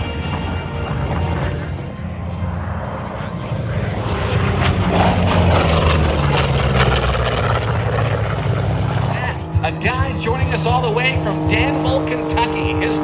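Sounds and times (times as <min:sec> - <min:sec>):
propeller aircraft engine: 0:00.0 - 0:13.0.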